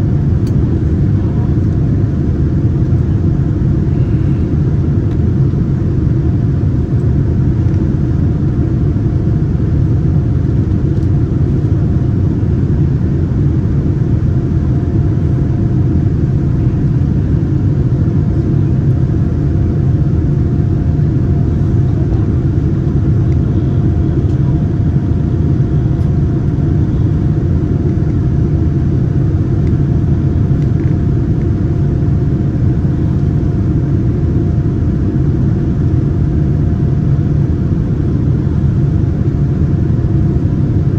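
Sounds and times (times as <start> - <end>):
airplane cabin engine noise: 0.0 - 40.9
faint steady hum: 0.0 - 40.9.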